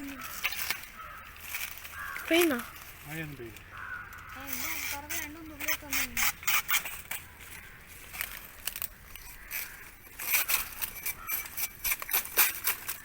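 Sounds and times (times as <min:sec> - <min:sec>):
leaf being torn and crumpled: 0:00.0 - 0:13.0.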